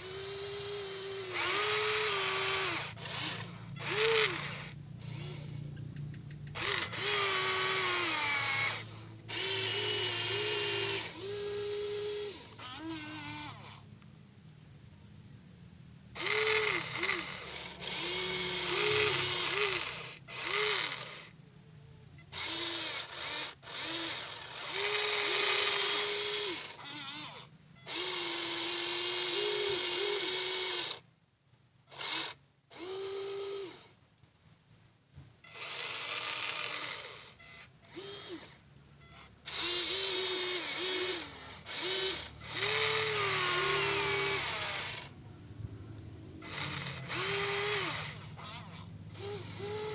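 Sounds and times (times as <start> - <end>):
small electric motors whirring: 0.0 - 13.9, 16.1 - 21.4, 22.2 - 31.1, 31.9 - 34.0, 35.5 - 45.2, 46.4 - 49.9.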